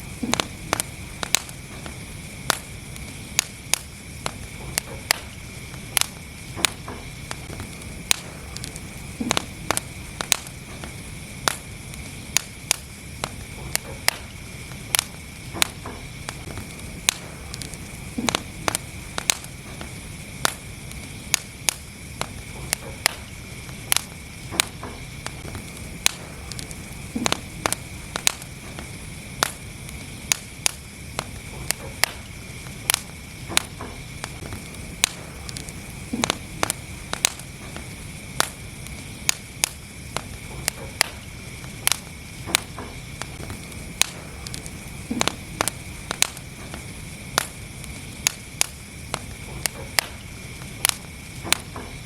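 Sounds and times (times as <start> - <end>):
low fire rumble: 0.0 - 52.0
wood fire crackling and popping: 0.0 - 52.0.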